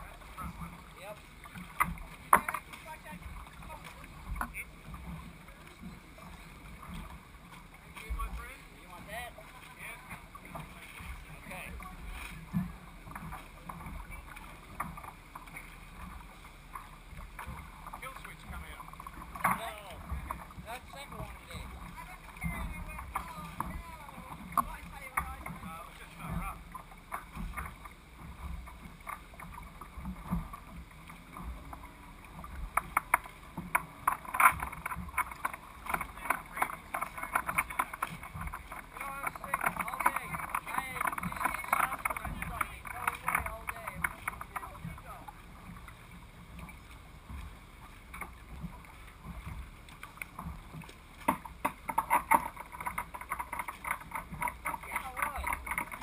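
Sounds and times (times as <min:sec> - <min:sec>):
water lapping against boat hull: 0:00.0 - 0:56.0.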